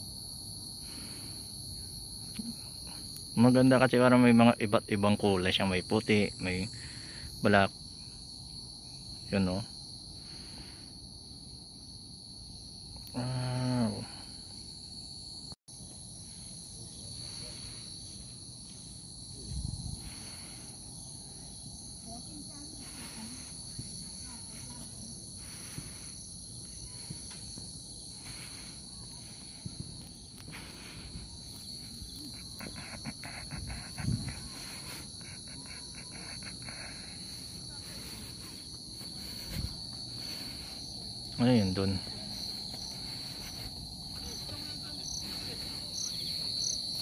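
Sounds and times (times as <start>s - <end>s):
high-pitched insect chorus: 0.0s - 47.0s.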